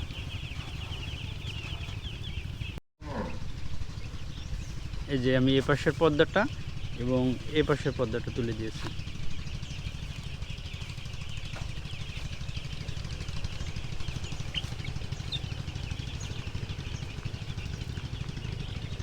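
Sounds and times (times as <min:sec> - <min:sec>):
chicks peeping: 0:00.0 - 0:19.0
steady low rumble: 0:00.0 - 0:19.0.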